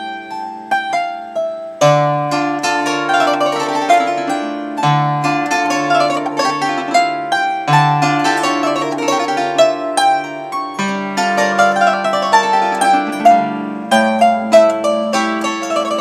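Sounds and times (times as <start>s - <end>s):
plucked treble strings: 0.0s - 16.0s.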